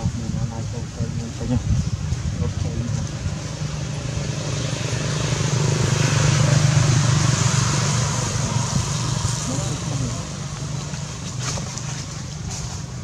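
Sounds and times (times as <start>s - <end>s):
vehicle engine passing by: 1.5s - 13.0s.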